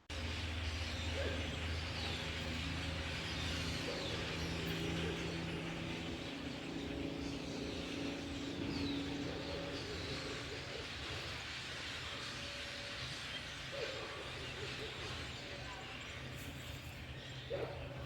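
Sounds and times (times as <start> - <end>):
faint birds chirping: 0.0 - 18.0
distant engine humming: 0.1 - 18.0.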